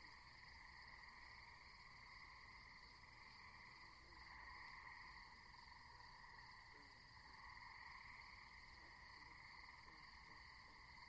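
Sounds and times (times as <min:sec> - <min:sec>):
frogs croaking: 0:00.0 - 0:11.0
insects chirping: 0:00.0 - 0:11.0.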